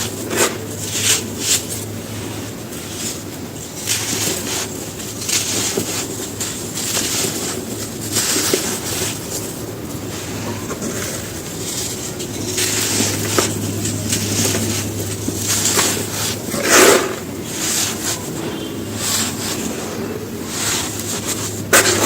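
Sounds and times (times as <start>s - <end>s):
gritty crunching of crumbling cement: 0.0s - 22.0s.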